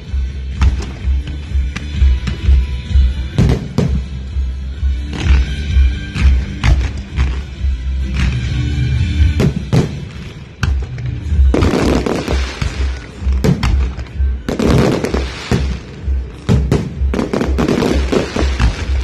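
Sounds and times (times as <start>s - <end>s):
fireworks bangs and crackling: 0.0s - 19.0s
music with steady low beat: 0.0s - 19.0s.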